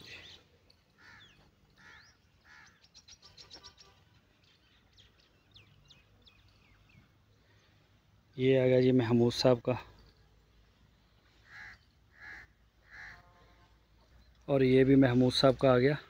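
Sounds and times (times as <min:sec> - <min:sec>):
harsh bird calls: 0:00.0 - 0:08.8, 0:10.9 - 0:15.5.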